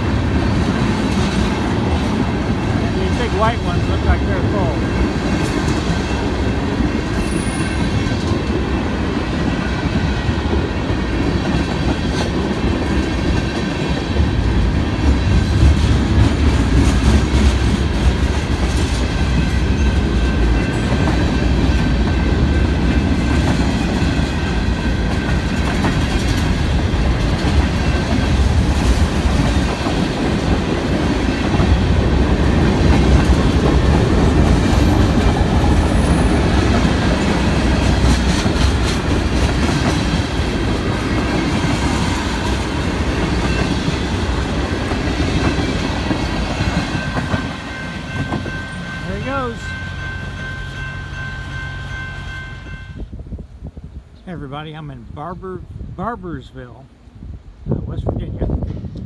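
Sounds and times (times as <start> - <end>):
wheels clacking over rail joints: 0.0 - 49.4
train wheels rumbling on rail: 0.0 - 59.0.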